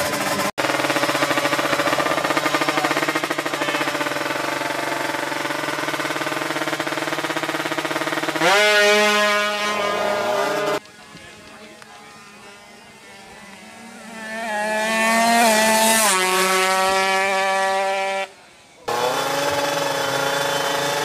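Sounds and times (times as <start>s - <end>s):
motorcycle engine revving: 0.0s - 10.8s, 12.2s - 21.0s.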